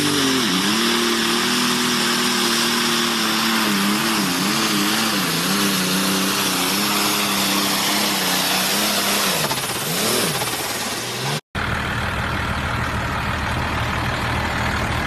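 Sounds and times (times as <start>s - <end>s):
diesel tractor engine under load: 0.0s - 15.0s.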